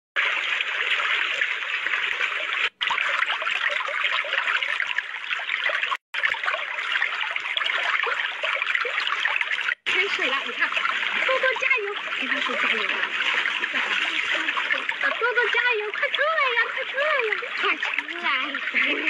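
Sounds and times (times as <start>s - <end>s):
water trickling and babbling: 0.2s - 19.0s.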